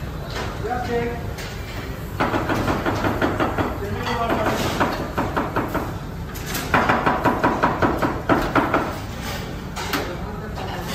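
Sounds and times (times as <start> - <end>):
kitchen background din: 0.0 - 10.9.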